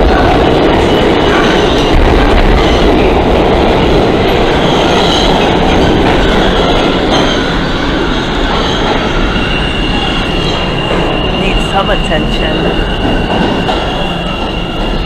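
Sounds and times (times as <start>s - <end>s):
subway train wheels rumbling on rail: 0.0s - 15.0s
high squeal of steel wheels: 0.1s - 15.0s.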